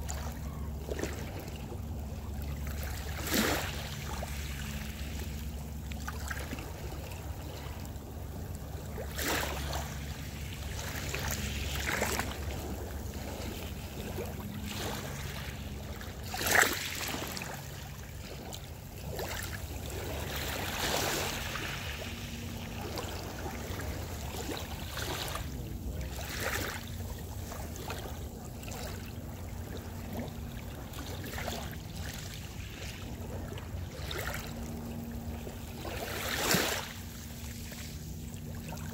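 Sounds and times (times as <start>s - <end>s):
low steady rumble: 0.0s - 38.9s
waves lapping on rocky shore: 0.0s - 38.9s.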